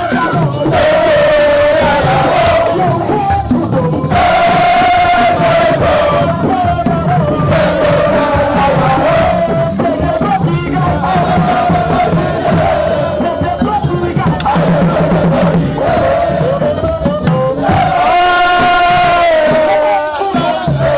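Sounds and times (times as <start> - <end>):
group of voices singing and chanting: 0.0 - 20.9
loud continuous music: 0.0 - 20.9.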